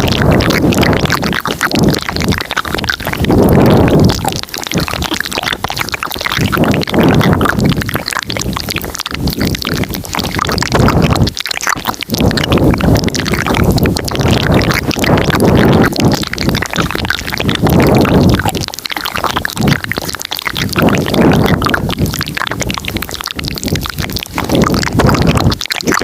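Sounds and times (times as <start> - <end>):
low wet mouth noise: 0.0 - 26.0
mouth clicking: 0.0 - 26.0.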